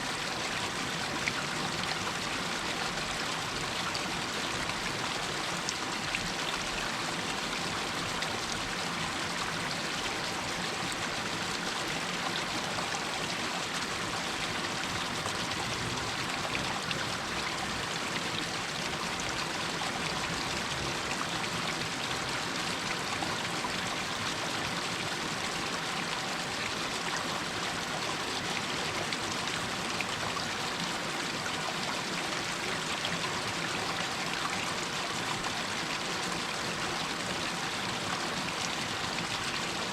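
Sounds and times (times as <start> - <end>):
stream trickling over rocks: 0.0 - 39.9
water drips and splashes: 0.0 - 39.9.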